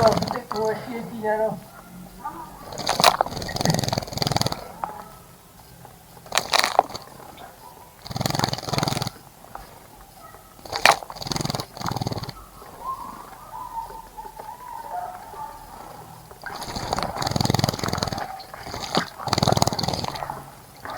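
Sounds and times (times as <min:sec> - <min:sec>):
low two-part animal calls: 0:00.0 - 0:20.9.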